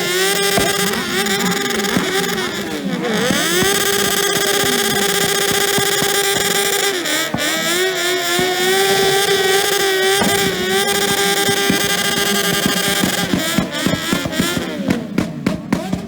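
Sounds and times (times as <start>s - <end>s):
motorcycle engine on rev limiter: 0.0s - 16.0s.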